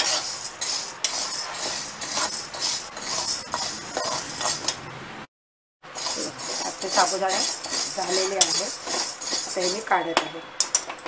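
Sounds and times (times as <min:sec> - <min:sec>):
pearls rattling against metal: 0:00.0 - 0:04.8, 0:06.0 - 0:11.0
spatula scraping metal pan: 0:00.0 - 0:04.9, 0:05.9 - 0:10.2.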